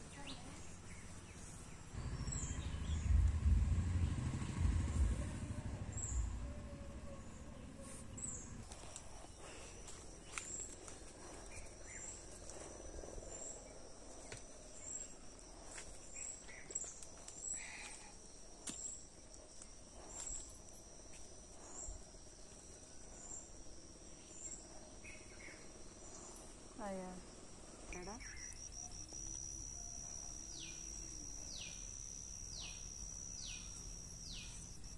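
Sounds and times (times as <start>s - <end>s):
insect chirp: 0.0s - 34.9s
insects droning: 0.0s - 34.9s.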